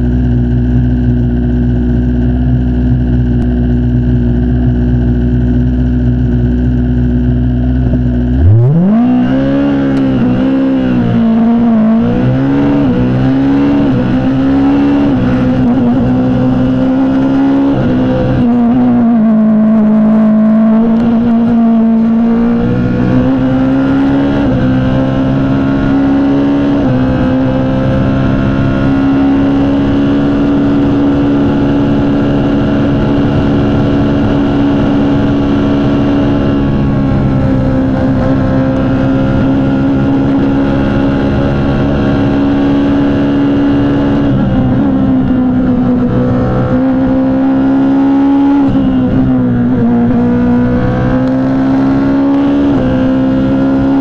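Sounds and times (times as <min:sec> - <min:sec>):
racing engine at high revs: 0:00.0 - 0:54.0.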